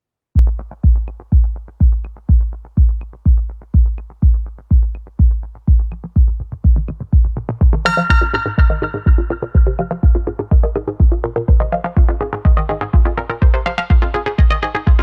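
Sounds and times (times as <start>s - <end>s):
electronic dance music: 0.4s - 15.0s.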